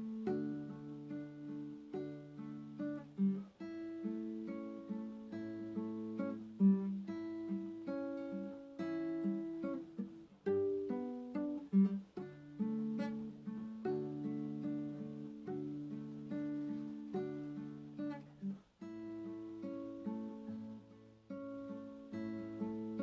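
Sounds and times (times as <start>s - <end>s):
acoustic guitar played softly: 0.0s - 23.0s.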